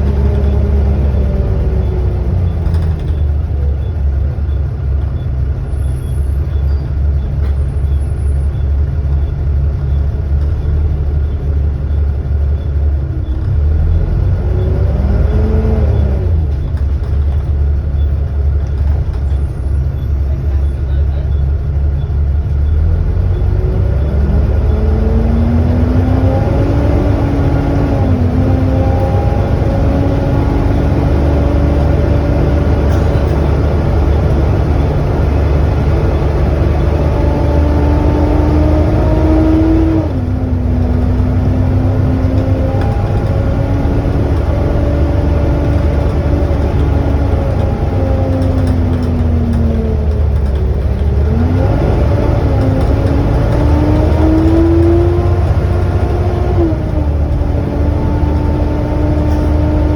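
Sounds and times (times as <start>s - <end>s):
bus engine whine: 0.0s - 59.9s
low engine rumble: 0.0s - 59.9s.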